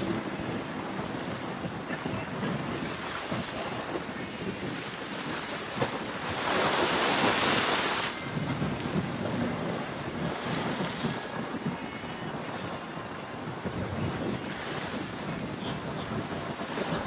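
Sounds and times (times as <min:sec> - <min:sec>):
rushing outdoor noise: 0:00.0 - 0:17.0.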